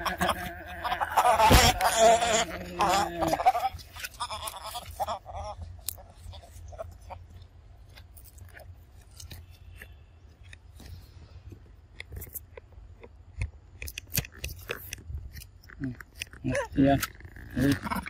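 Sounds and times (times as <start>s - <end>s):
monkeys chewing fruit: 0.0s - 18.0s.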